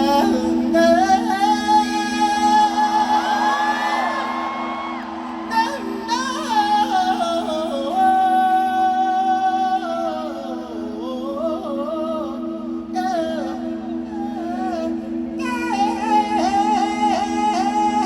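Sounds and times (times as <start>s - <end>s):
person singing: 0.0s - 18.0s.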